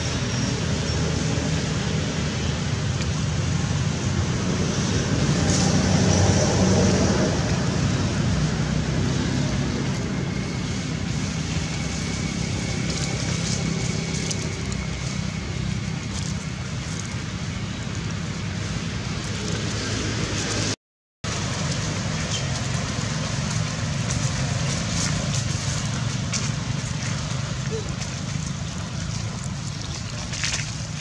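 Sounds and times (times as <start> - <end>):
outdoor background rumble and hiss: 0.0 - 31.0.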